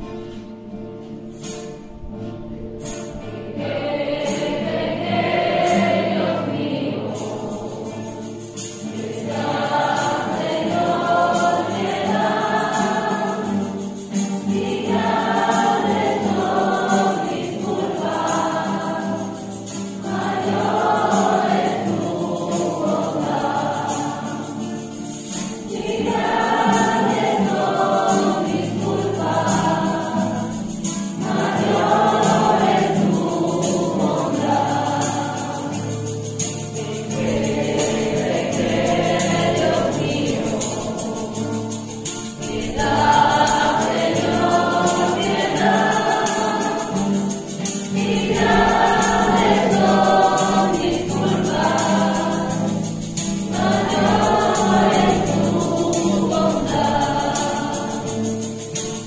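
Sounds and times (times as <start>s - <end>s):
instrumental accompaniment: 0.0s - 59.0s
group singing a hymn: 3.3s - 59.0s
high-pitched percussion strokes: 3.8s - 59.0s.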